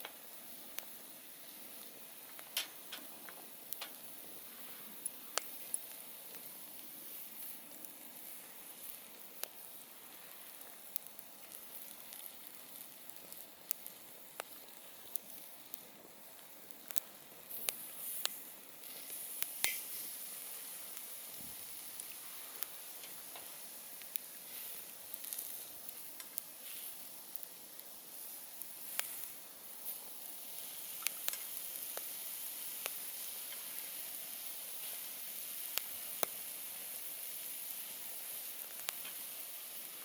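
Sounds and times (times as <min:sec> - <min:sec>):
campfire hissing: 0:00.0 - 0:40.0
fire crackles and pops: 0:00.0 - 0:40.0.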